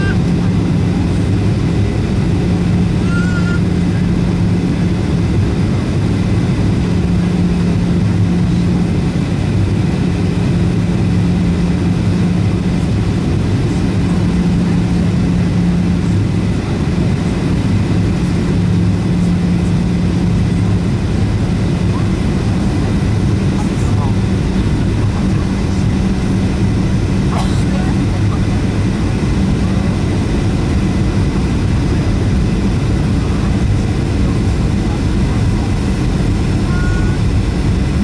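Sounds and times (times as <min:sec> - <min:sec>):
jet engine drone in cabin: 0:00.0 - 0:38.0.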